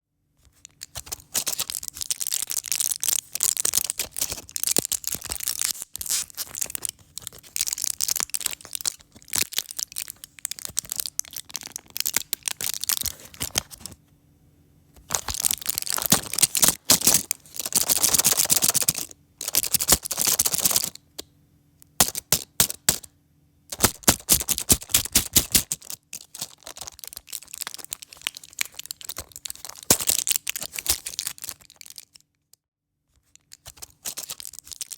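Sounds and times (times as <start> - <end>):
pill pack crinkling and clicking: 0.5 - 14.0, 15.0 - 21.0, 22.0 - 23.1, 23.7 - 32.3, 33.3 - 34.9.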